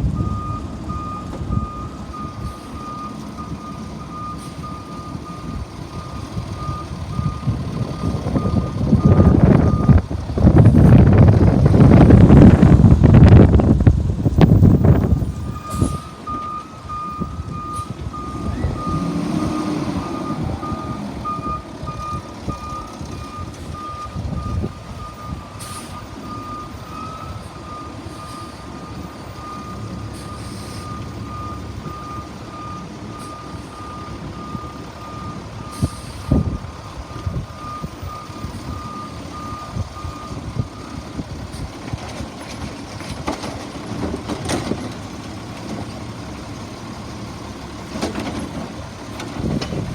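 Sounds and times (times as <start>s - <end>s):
truck backup alarm beeping: 0.0s - 13.5s, 14.3s - 41.8s
truck engine running: 0.0s - 49.9s.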